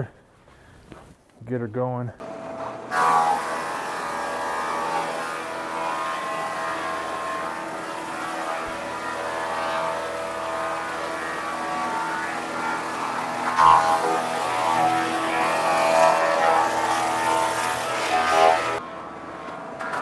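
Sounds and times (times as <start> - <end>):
thickness planer whine: 2.2 - 20.0.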